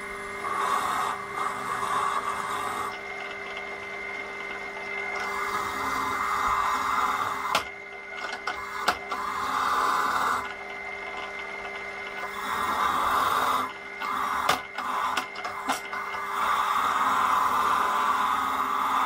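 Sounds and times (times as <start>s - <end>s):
pillar drill running: 0.0s - 19.0s.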